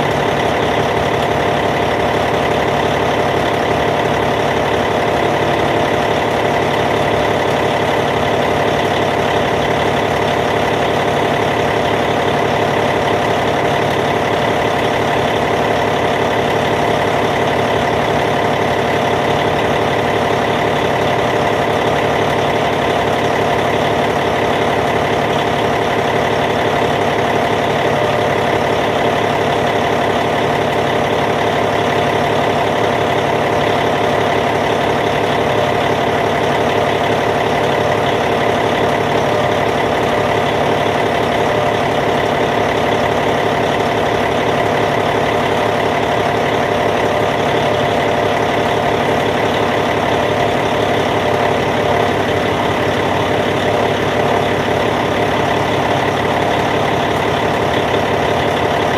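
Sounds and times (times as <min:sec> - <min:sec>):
bulldozer diesel engine idling: 0:00.0 - 0:58.9.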